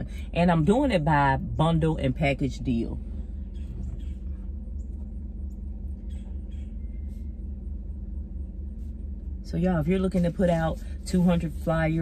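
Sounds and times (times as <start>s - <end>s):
car cabin engine drone: 0.0s - 12.0s.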